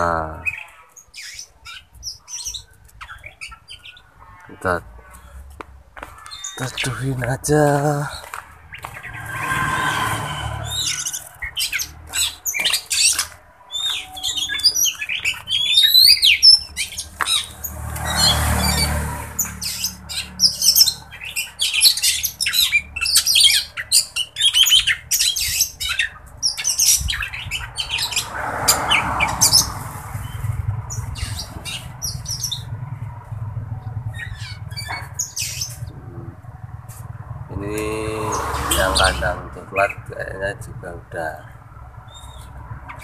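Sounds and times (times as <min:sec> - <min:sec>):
birds singing and chattering: 0:00.0 - 0:43.0.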